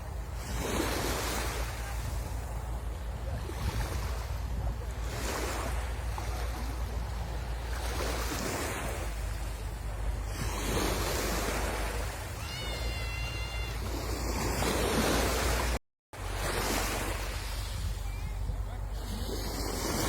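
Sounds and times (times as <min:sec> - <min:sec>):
wind buffeting microphone: 0:00.0 - 0:12.4, 0:13.6 - 0:20.0
sea waves breaking on beach: 0:00.0 - 0:20.0.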